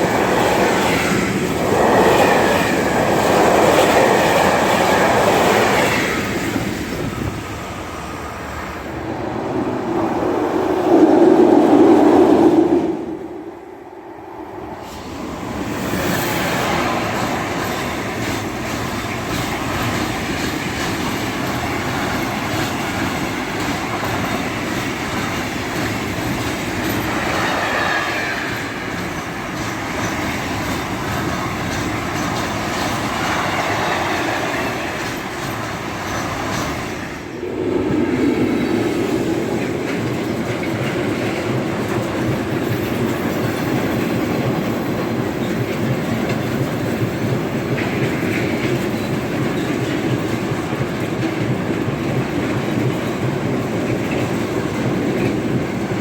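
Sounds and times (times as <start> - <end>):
train wheels clacking on rails: 0.0 - 8.9, 14.8 - 56.0.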